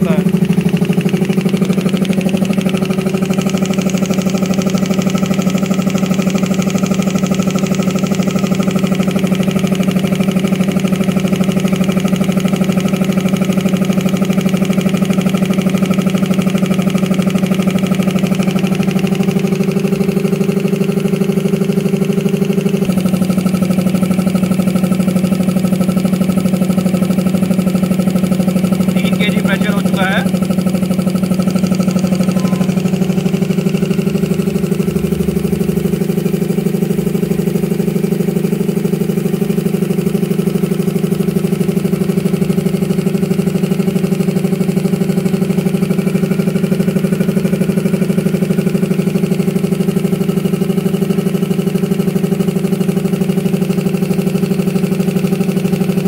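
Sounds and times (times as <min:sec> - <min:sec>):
air compressor running: 0:00.0 - 0:56.0.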